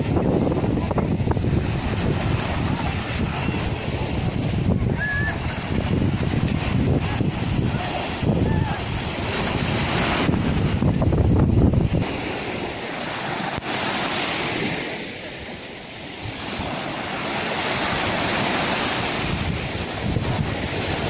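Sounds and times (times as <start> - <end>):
wind buffeting microphone: 0.0 - 14.8, 16.2 - 21.0
sea waves washing onto shore: 0.0 - 21.0.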